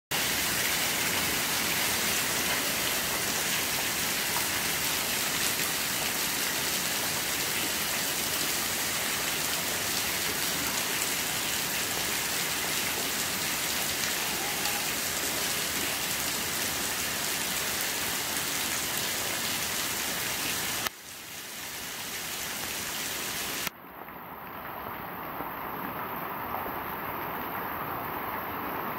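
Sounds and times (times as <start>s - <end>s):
heavy rain splashing on paving: 0.1s - 23.7s.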